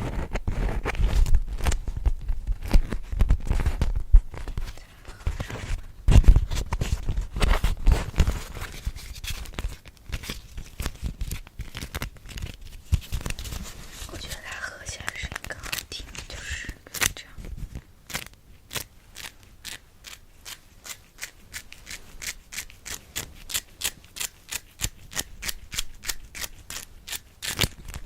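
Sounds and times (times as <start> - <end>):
crinkly material rubbed and tapped: 0.0 - 28.0.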